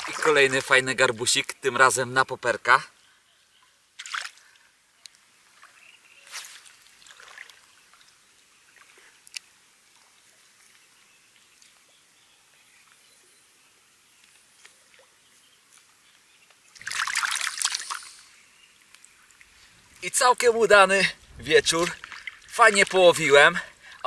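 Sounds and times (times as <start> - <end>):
lake water splashing and dripping: 0.0 - 24.0.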